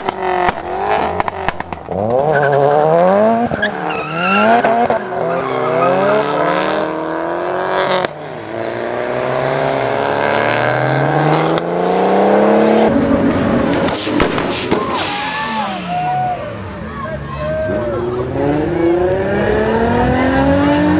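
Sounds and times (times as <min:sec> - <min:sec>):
car engine revving hard: 0:00.0 - 0:20.9
tires screeching while sliding: 0:00.0 - 0:20.9.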